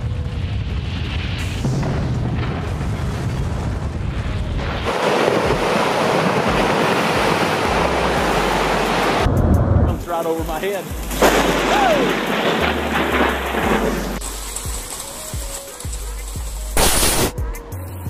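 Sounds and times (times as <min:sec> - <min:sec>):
rockfall rushing rumble: 0:00.0 - 0:15.9.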